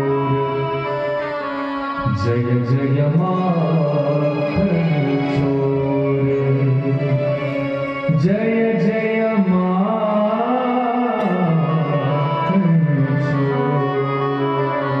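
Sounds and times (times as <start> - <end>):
man singing long notes: 0.0 - 15.0.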